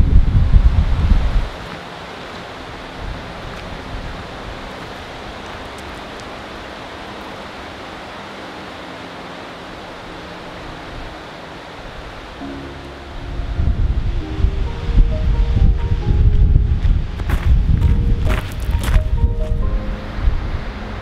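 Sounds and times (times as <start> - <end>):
fast river rushing: 0.0 - 21.0.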